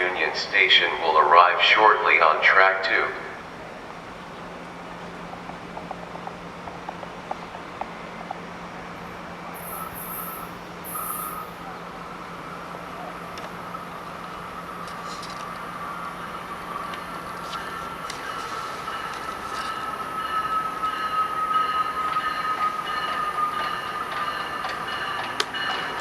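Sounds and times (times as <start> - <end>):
thin high whine of approaching train: 0.0 - 26.0.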